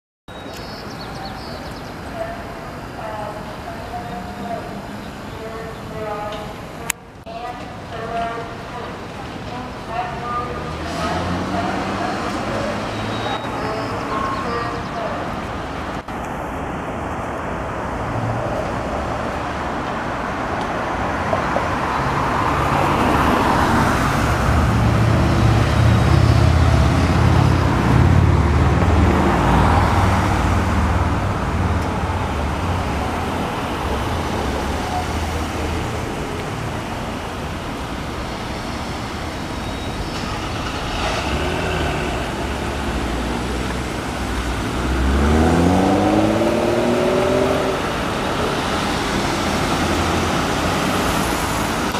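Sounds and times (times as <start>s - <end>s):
city road traffic: 0.3s - 51.9s
passing vehicles rumbling: 0.3s - 51.9s.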